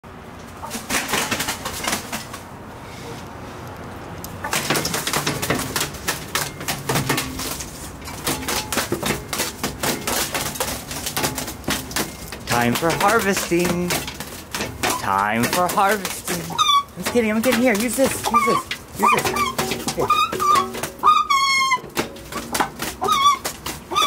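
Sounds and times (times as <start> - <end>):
feet and beaks tapping sill: 4.2 - 24.0
gulls flapping wings: 4.4 - 24.0.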